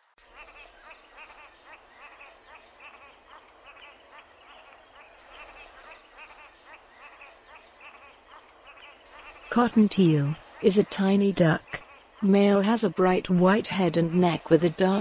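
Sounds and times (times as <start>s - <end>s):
chorus of frogs: 0.1s - 15.0s.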